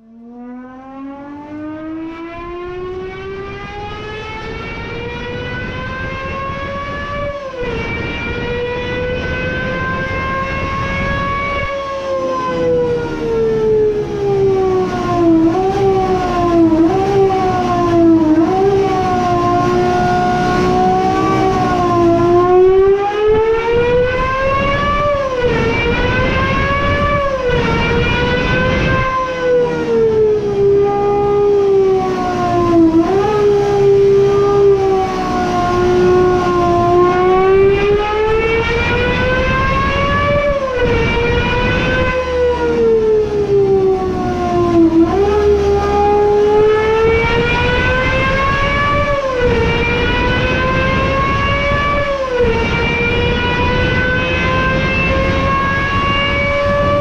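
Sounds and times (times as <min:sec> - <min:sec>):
engine throttle blips: 0:00.0 - 0:57.0
sports car engine wailing: 0:00.0 - 0:57.0.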